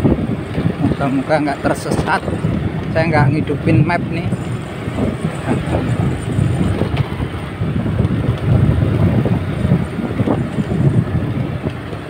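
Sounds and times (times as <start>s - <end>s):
motorbike engine: 0.0s - 12.0s
wind rumble on microphone: 0.0s - 12.0s.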